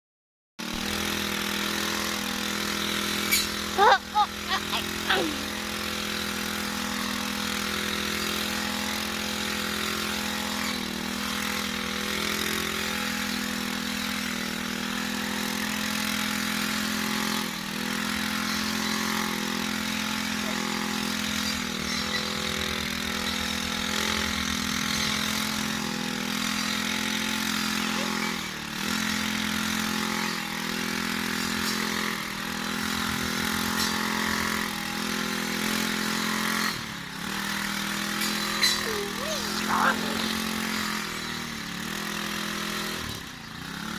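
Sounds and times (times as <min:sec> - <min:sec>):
engine running: 0:00.6 - 0:43.9.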